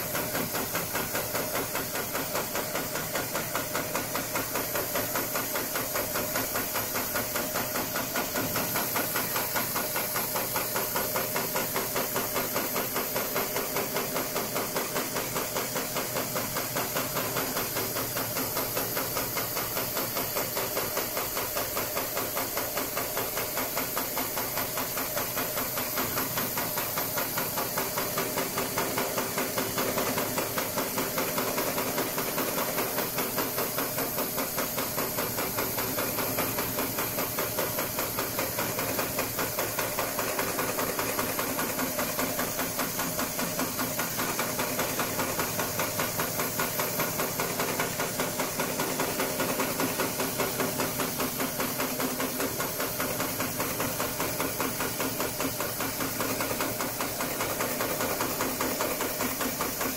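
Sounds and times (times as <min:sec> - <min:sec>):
sewing machine needle knocking: 0:00.0 - 0:59.9.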